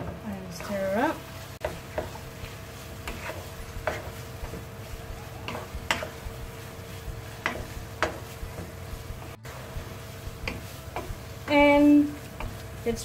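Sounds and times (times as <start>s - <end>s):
sauce sizzling: 0.3s - 13.0s
wooden spatula scraping a pan: 0.5s - 13.0s.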